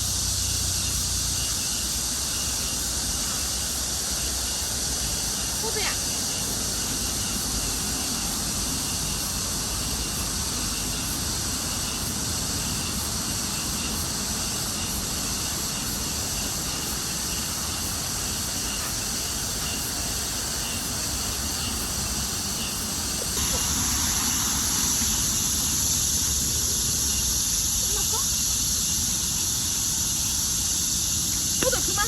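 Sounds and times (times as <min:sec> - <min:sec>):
even hiss: 0:00.0 - 0:32.0.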